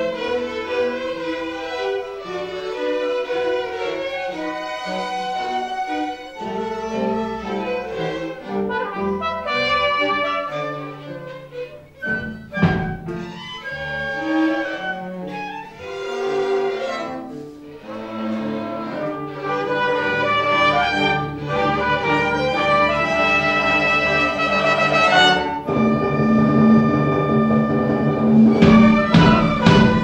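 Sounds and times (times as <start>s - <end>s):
orchestra playing: 0.0s - 30.0s.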